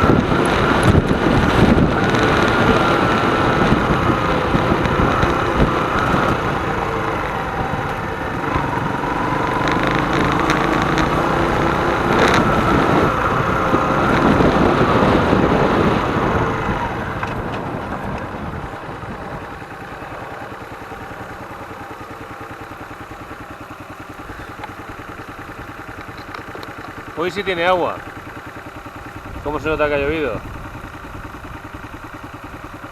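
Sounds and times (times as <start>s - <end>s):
motorcycle engine: 0.0s - 32.9s.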